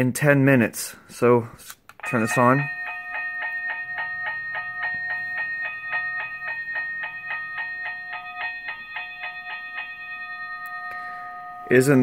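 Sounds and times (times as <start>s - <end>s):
electronic crossing bell dinging: 2.0s - 12.0s.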